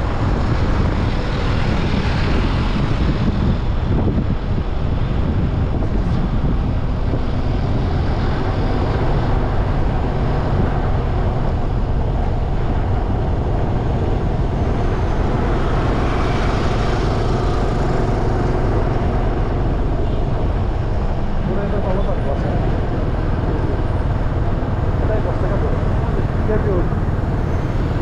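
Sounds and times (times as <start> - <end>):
traffic: 0.0 - 28.0
vehicle engine: 0.0 - 28.0
wind rushing on microphone: 0.0 - 28.0.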